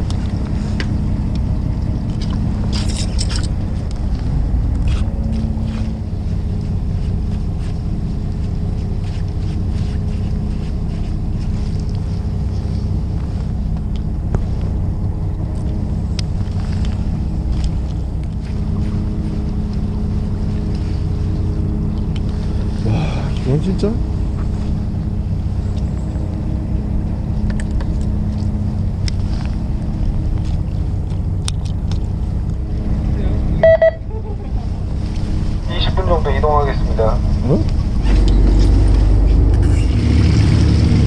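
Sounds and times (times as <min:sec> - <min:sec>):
boat engine droning: 0:00.0 - 0:41.0
wind: 0:00.0 - 0:41.0.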